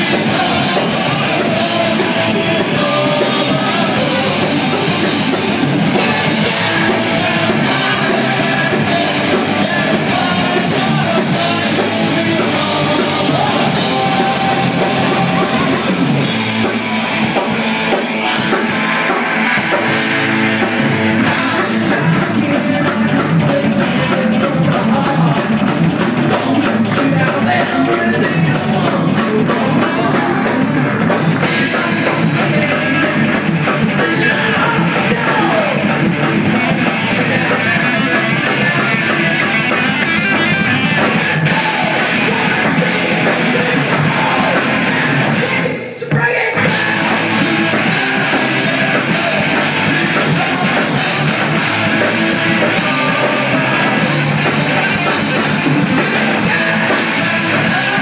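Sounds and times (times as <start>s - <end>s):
bass guitar: 0.0s - 58.0s
drum kit: 0.0s - 58.0s
electric guitars: 0.0s - 58.0s
man singing lead vocals: 0.0s - 58.0s.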